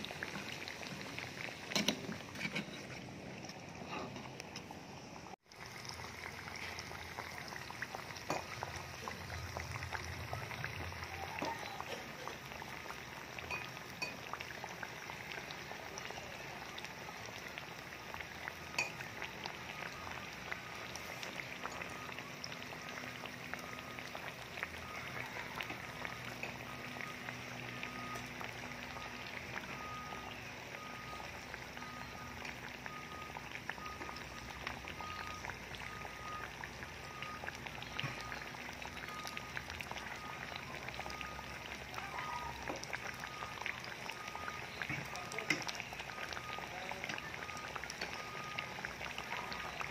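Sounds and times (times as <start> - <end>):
batter deep-frying in oil: 0.0 - 49.9.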